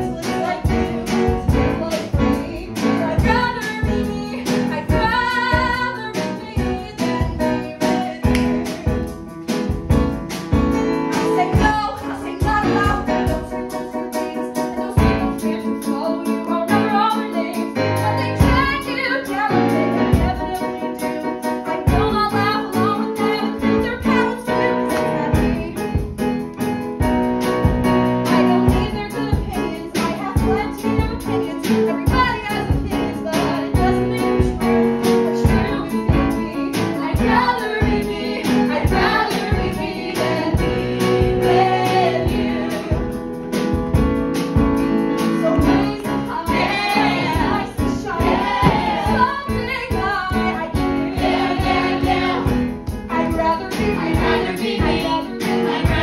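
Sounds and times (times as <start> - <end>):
woman singing into microphone: 0.0 - 9.1, 11.2 - 21.1, 21.9 - 26.0, 28.3 - 43.1, 45.4 - 56.0
instrumental accompaniment with beat: 0.0 - 56.0.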